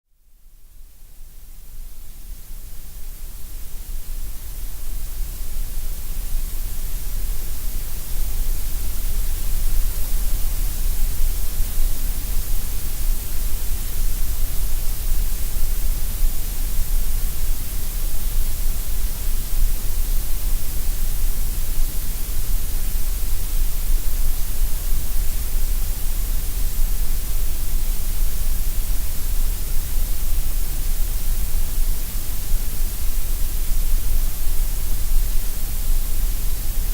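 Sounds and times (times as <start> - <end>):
synthetic grey noise hiss: 0.1 - 36.9.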